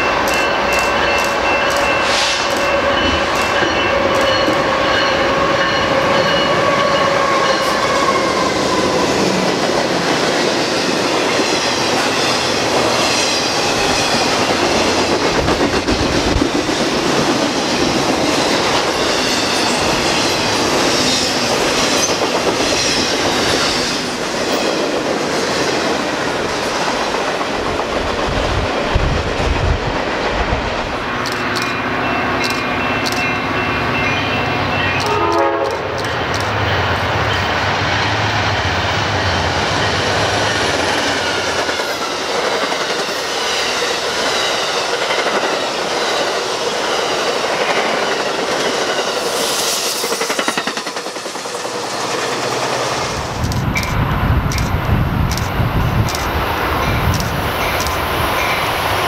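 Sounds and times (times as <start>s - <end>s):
diesel locomotive whine: 0.0s - 59.0s.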